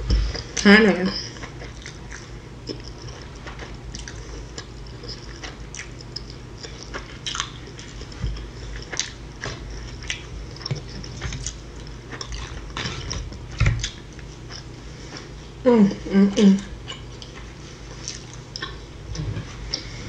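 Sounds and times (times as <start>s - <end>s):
person chewing food: 0.0s - 15.6s, 16.6s - 20.0s.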